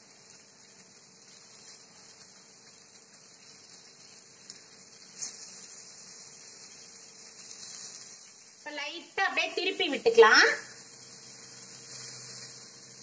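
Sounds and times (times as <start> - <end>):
food sizzling on hot iron: 0.0 - 13.0.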